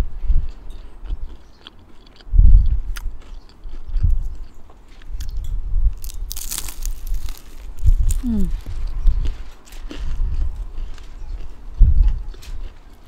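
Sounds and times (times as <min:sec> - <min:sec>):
chewing crunchy food: 0:00.0 - 0:13.0.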